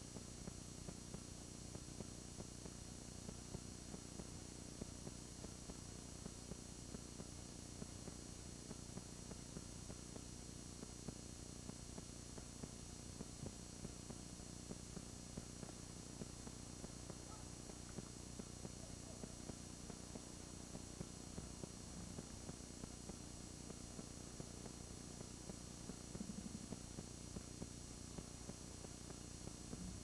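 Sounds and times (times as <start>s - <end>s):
electrical hum and hiss: 0.0s - 30.0s
faint clicks and crackles: 0.0s - 30.0s.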